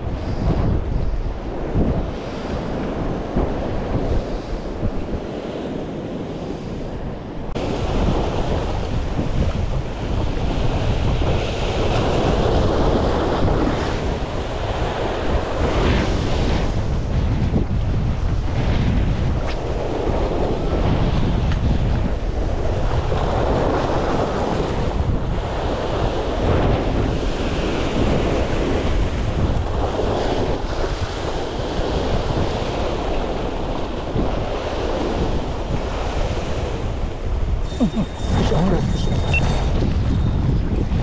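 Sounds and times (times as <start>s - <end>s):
wind on microphone: 0.0s - 41.0s.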